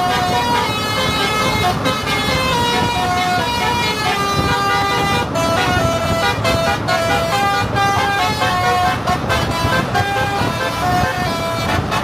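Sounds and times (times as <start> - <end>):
musical air horn tune: 0.0 - 12.0
truck engine rumble: 0.0 - 12.0.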